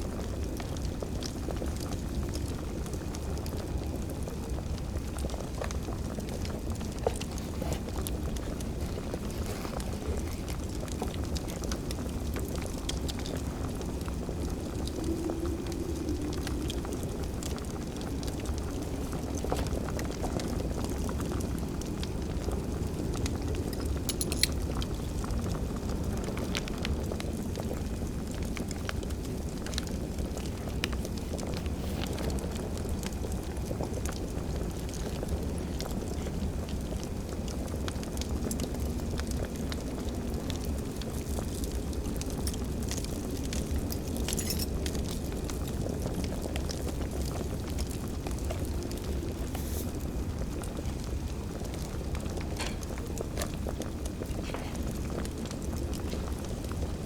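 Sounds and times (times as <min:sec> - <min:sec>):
wood fire crackling: 0:00.0 - 0:57.0
fire pops: 0:00.2 - 0:57.0.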